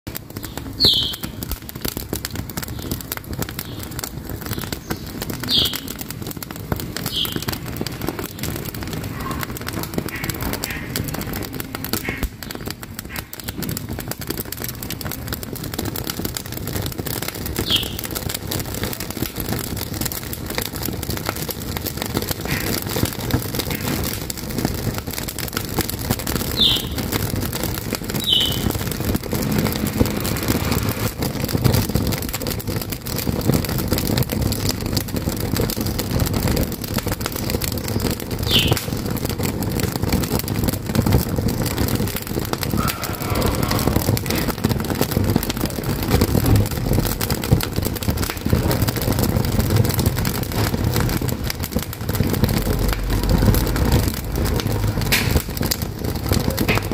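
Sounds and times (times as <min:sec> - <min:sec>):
wood fire crackling in stove: 0:00.1 - 0:56.9.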